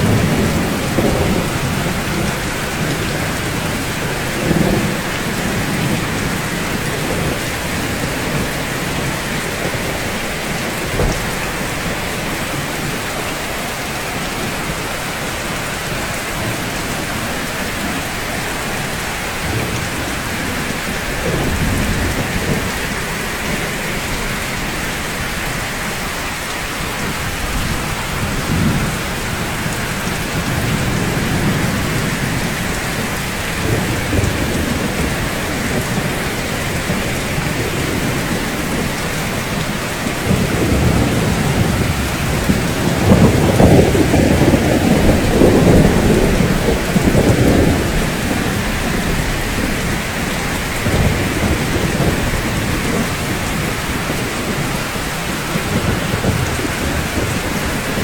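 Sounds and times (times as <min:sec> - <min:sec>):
rain falling on rooftops: 0:00.0 - 0:58.0
thunder rumbling: 0:00.0 - 0:58.0.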